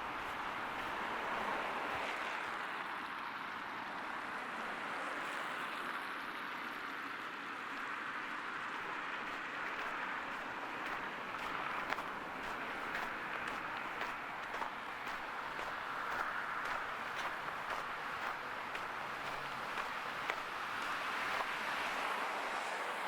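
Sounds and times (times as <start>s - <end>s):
street ambience rushing noise: 0.0s - 3.5s, 7.8s - 23.0s.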